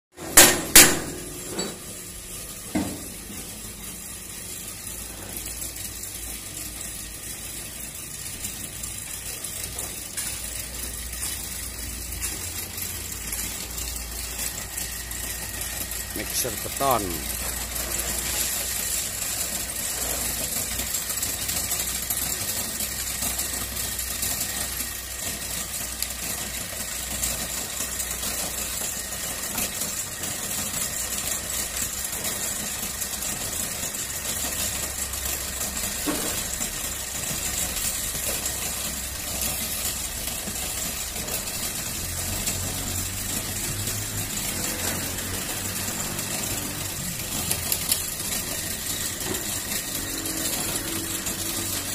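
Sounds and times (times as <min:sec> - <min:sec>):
concrete mixer engine drone: 0:00.3 - 0:51.9.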